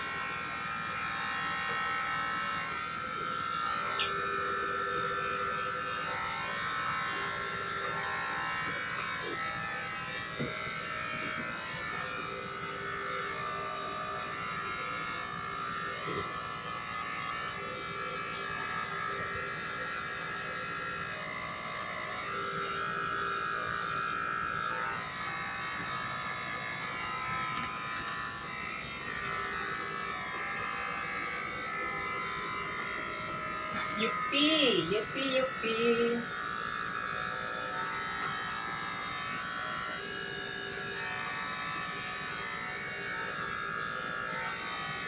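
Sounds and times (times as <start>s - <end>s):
electric hair clipper buzzing: 0.0s - 45.0s.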